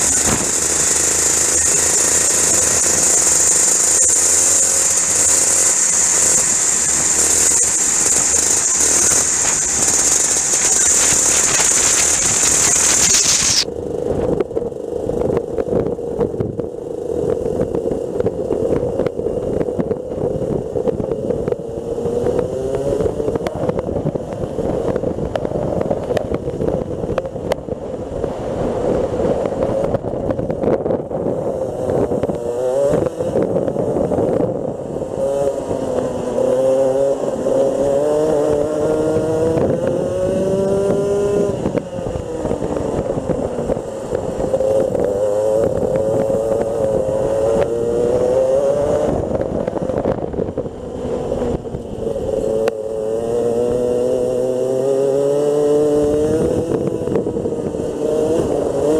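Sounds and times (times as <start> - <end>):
kart engine revving: 0.0 - 24.9, 31.2 - 58.9
steady rushing noise: 0.0 - 58.9.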